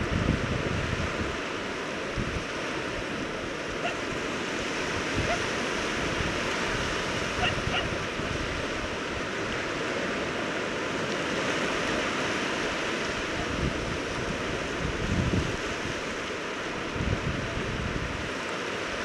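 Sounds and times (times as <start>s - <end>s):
surf washing onto a beach: 0.0s - 19.0s.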